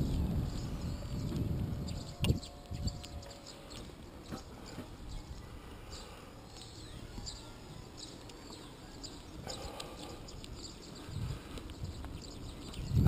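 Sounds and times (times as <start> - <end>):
small birds chirping: 0.0 - 13.0
wind and road noise: 0.0 - 13.0.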